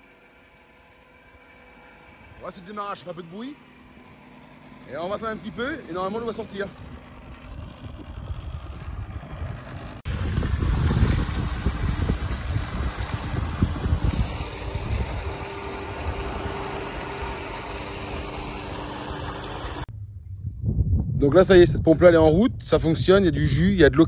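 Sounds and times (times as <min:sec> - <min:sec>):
water rushing through pump: 0:00.0 - 0:19.9.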